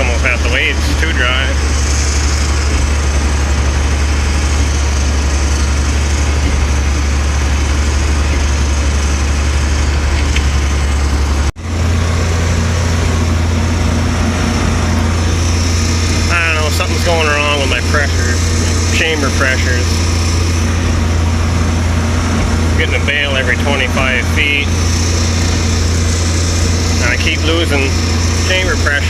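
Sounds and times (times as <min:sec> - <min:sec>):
tractor engine drone: 0:00.0 - 0:29.0.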